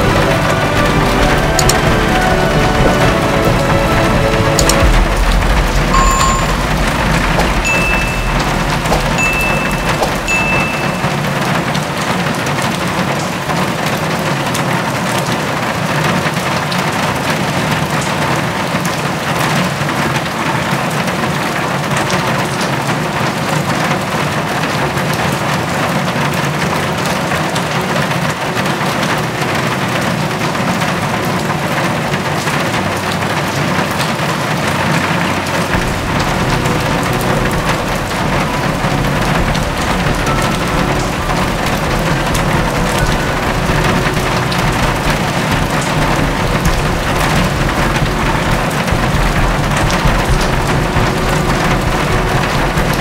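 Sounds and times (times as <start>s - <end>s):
steady rain on a hard surface: 0.0s - 53.0s.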